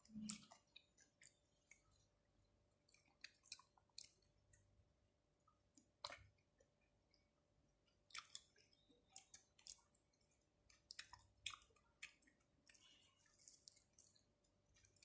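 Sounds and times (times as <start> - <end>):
wet chewing and mouth clicks: 0.0 - 4.8, 5.4 - 15.0.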